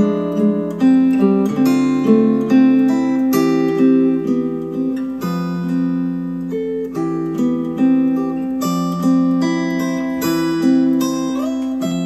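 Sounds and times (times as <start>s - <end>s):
acoustic guitar through speakers: 0.0s - 12.0s.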